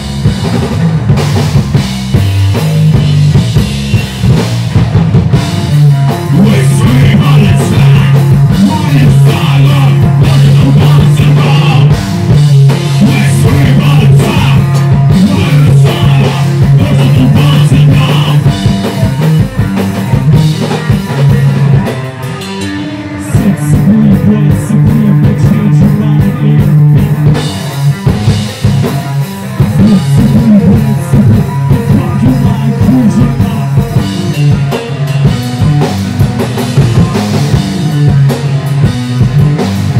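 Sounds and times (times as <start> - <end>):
busy drumming: 0.0 - 39.9
electric guitar: 0.0 - 39.9.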